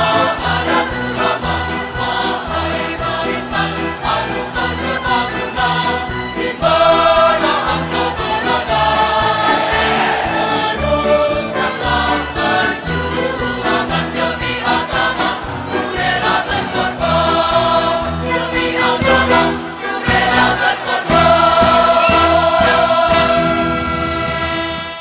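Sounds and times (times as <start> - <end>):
choir singing: 0.0 - 24.7.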